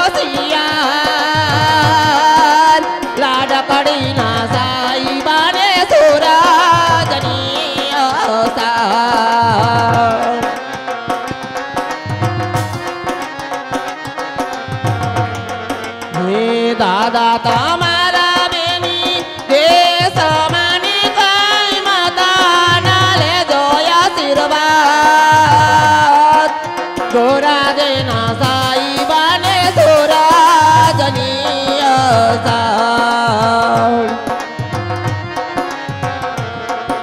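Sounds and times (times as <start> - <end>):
keyboard: 0.0 - 37.0
person singing into microphone: 0.0 - 37.0
tabla and barrel drum: 0.0 - 37.0.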